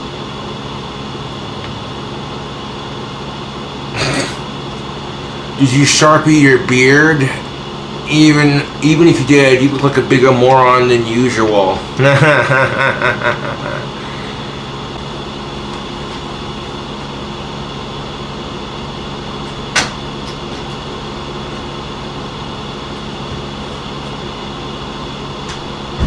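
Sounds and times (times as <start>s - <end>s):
steady tonal hum: 0.0s - 26.0s.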